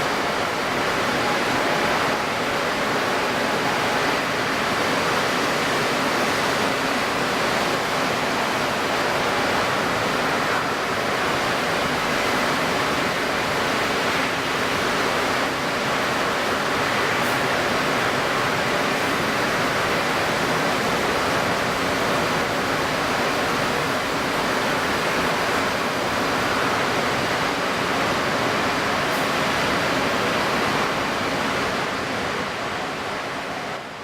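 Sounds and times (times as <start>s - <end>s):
wind-stirred water: 0.0s - 34.0s.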